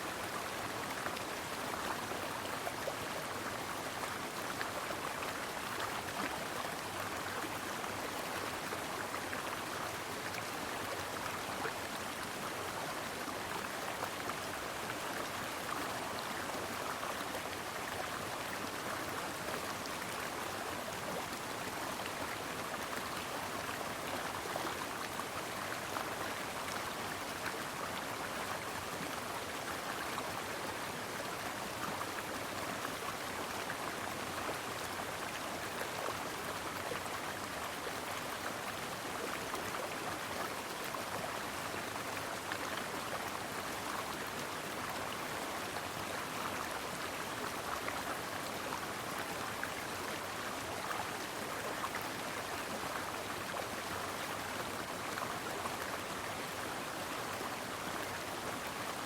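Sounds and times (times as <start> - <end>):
stream babbling over rocks: 0.2 - 59.0.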